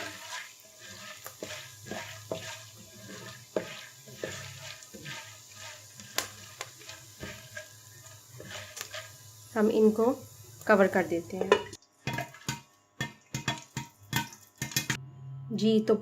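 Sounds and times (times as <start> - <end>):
oil sizzling: 0.0 - 15.0
popcorn popping: 0.0 - 15.0.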